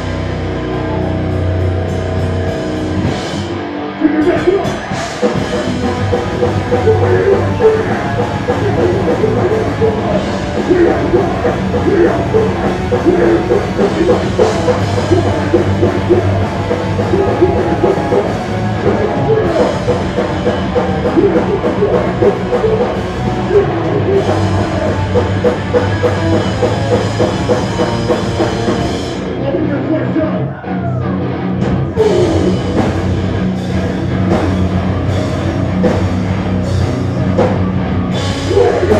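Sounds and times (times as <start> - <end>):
punk rock band playing: 0.0 - 38.9.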